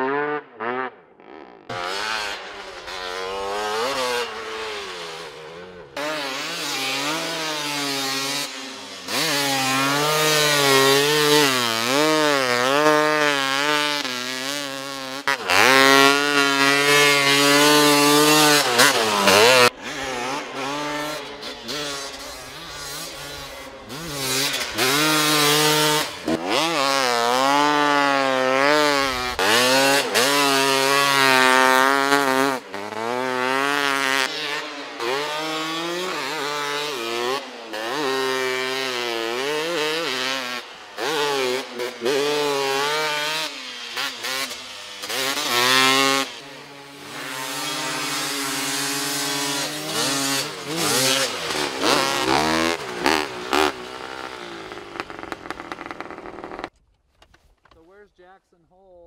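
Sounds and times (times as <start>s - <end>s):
motorbike engines revving: 0.0s - 56.7s.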